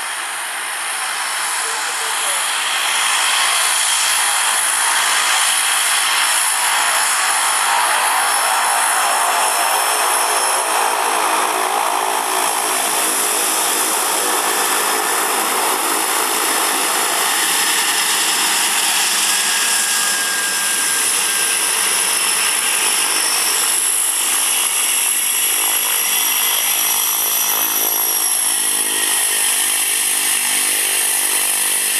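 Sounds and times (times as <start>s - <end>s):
high turbine whine: 0.0s - 31.9s
propeller buzz: 0.0s - 31.9s.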